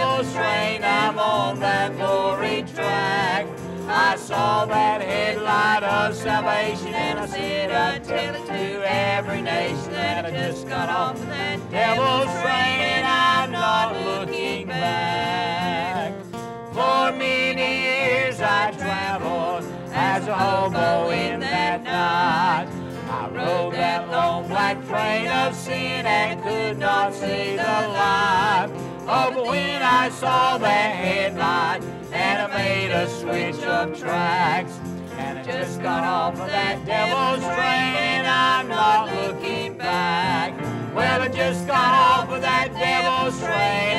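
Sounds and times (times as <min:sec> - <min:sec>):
instrumental backing: 0:00.0 - 0:43.9
man singing with vibrato: 0:00.0 - 0:43.9.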